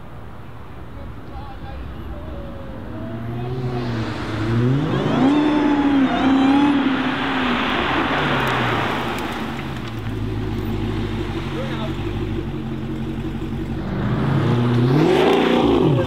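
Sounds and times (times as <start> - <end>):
supercharger whine: 2.3 - 16.0
car engine accelerating hard: 2.8 - 16.0.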